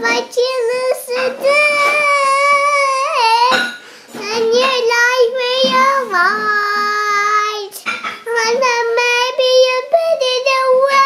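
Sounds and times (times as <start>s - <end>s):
girl singing: 0.0s - 11.0s.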